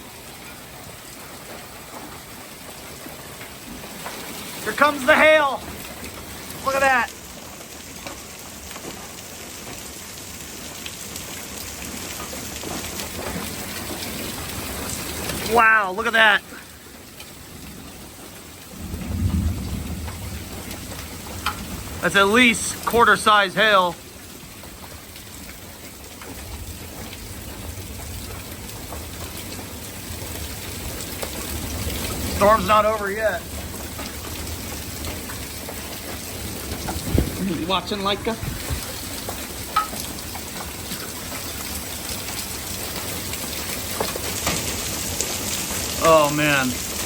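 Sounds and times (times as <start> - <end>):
hail and heavy rain: 0.0 - 47.0.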